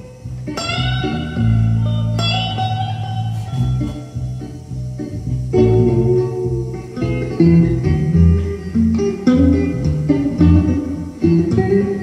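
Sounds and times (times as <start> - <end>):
electric guitar blues: 0.0 - 12.0.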